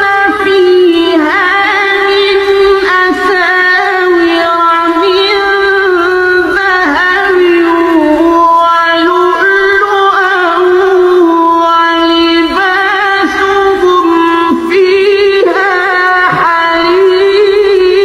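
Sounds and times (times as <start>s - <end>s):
person chanting melodically: 0.0s - 18.0s.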